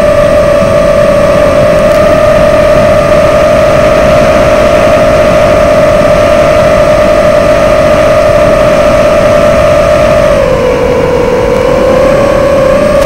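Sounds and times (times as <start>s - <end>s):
drone motors whining: 0.0s - 13.0s
rushing airflow noise: 0.0s - 13.0s.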